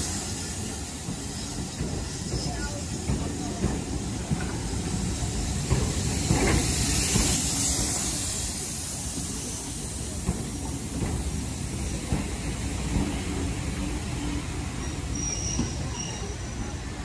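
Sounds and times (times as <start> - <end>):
steam hissing: 0.0 - 17.0
train wheels rumbling and clicking: 0.0 - 17.0.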